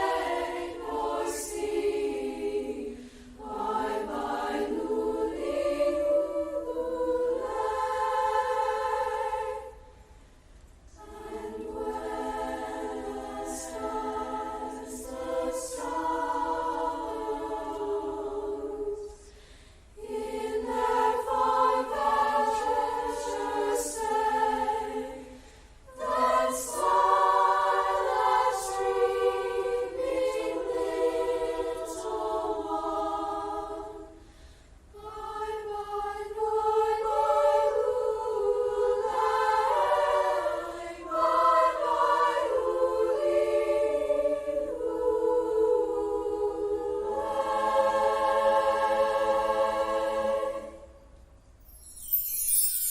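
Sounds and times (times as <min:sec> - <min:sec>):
choir singing: 0:00.0 - 0:10.0, 0:10.9 - 0:19.4, 0:20.0 - 0:34.3, 0:34.9 - 0:52.9.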